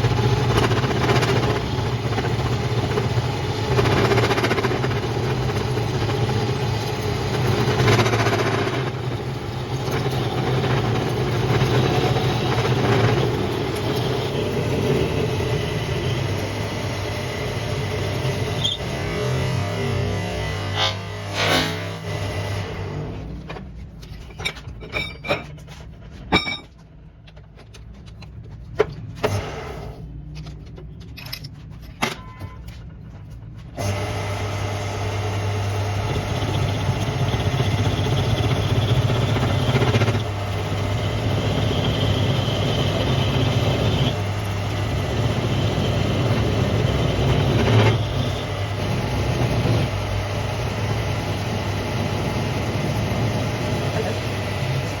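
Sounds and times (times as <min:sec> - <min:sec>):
lathe running with low hum: 0:00.0 - 0:23.2, 0:33.8 - 0:55.0.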